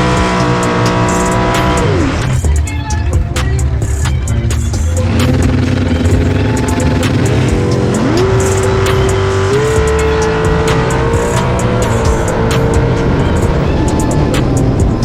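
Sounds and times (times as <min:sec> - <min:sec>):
background music: 0:00.0 - 0:15.0
race car engine revving: 0:00.0 - 0:15.0.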